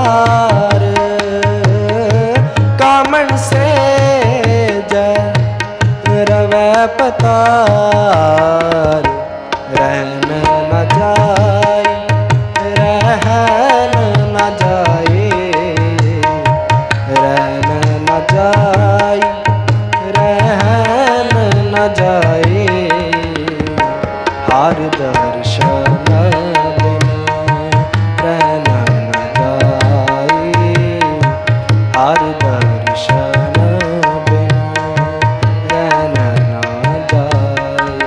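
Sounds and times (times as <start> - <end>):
person singing: 0.0 - 38.0
tabla drumming: 0.0 - 38.0.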